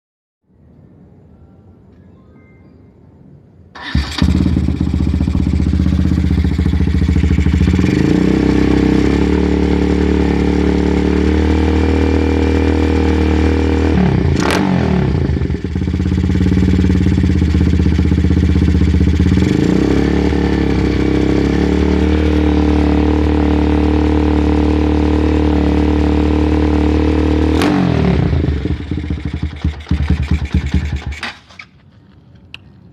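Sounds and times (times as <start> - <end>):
motorcycle engine revving: 3.8 - 31.6.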